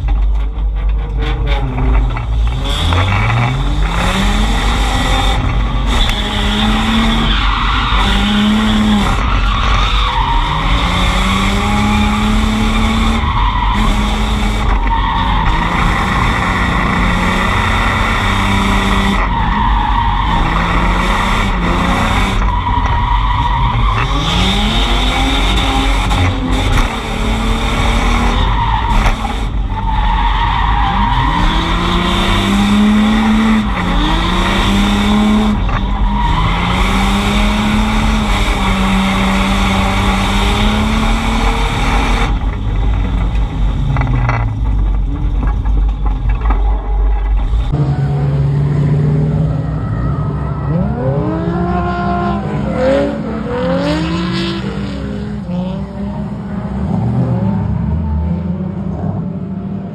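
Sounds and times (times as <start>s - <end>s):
car engine revving: 0.0s - 59.9s
tires skidding and squealing: 1.0s - 59.2s.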